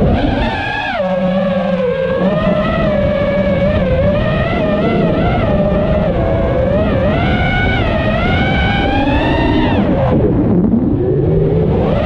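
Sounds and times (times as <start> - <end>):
drone motors whining: 0.0 - 12.0
wind rumble on microphone: 0.0 - 12.0.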